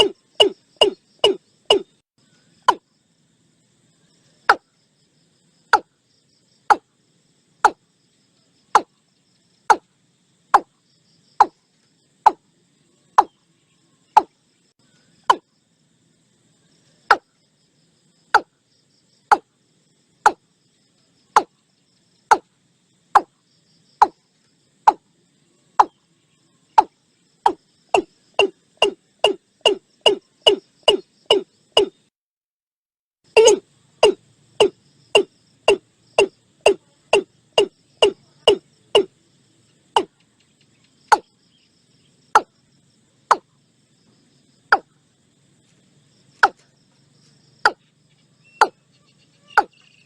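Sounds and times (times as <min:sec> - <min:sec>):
insect or frog chorus: 0:00.0 - 0:32.1, 0:33.2 - 0:50.0.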